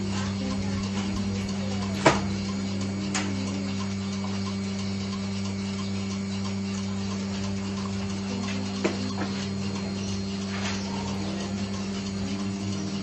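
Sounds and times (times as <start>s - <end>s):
electric machine hum: 0.0s - 13.0s
faint ticking: 0.0s - 13.0s.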